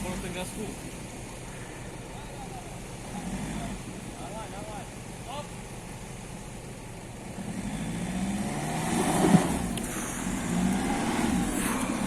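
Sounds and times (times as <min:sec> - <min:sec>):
off-roader engine revving: 0:00.0 - 0:01.4, 0:02.4 - 0:12.0.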